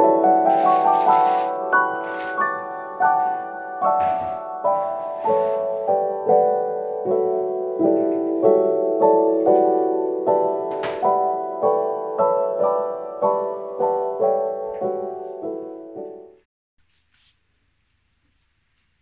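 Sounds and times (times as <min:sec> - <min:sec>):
gentle piano chords: 0:00.0 - 0:16.5.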